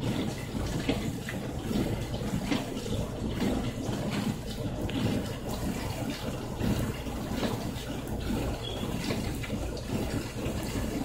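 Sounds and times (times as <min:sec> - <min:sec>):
dishwasher low rumble: 0:00.0 - 0:11.0
dishwasher water sloshing: 0:00.0 - 0:11.0.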